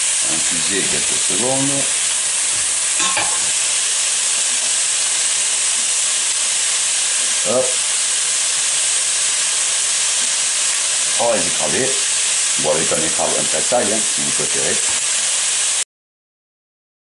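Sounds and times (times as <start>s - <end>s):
food sizzling in hot oil: 0.0s - 15.9s.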